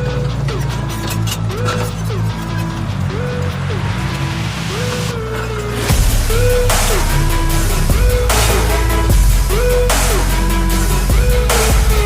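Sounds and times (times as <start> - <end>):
gliding melody: 0.0 - 12.0
steady bass: 0.0 - 12.0.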